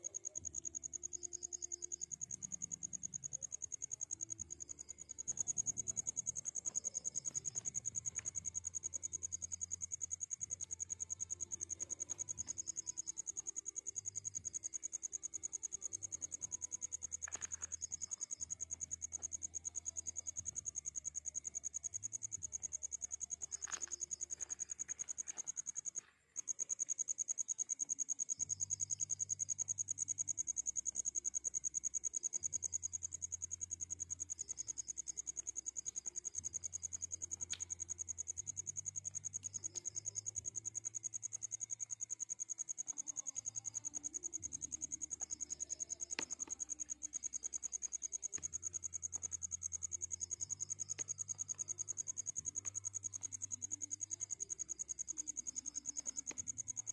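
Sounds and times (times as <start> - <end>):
cricket trilling: 0.0 - 56.9.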